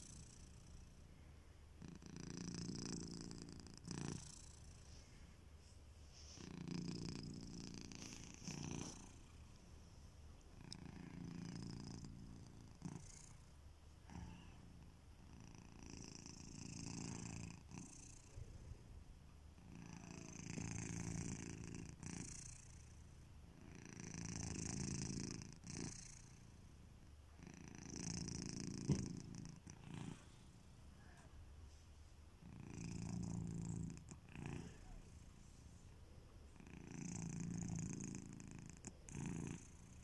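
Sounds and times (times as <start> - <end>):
cat snoring: 0.0 - 5.3, 6.2 - 9.6, 10.6 - 18.9, 19.6 - 31.3, 32.4 - 40.0.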